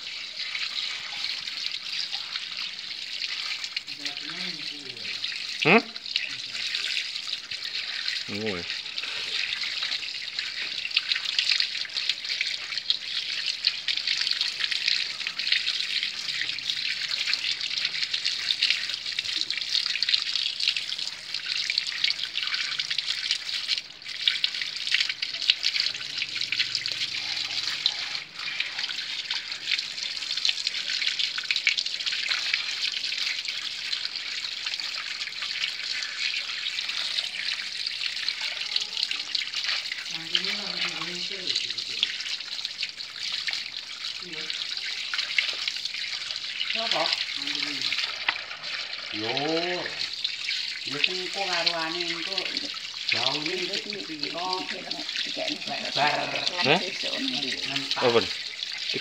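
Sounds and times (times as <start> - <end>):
water running and splashing: 0.0 - 59.0.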